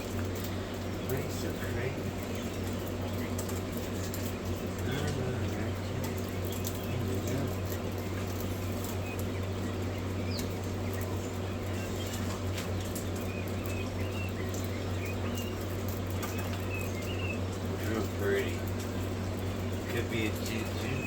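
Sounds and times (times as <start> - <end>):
quail chicks chirping: 0.0 - 21.0
steady low hum: 0.0 - 21.0.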